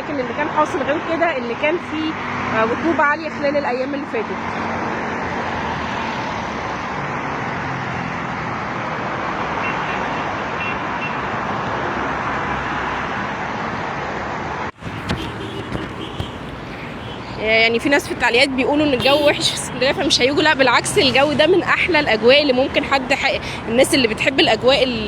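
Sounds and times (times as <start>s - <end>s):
road traffic rushing: 0.0s - 25.0s.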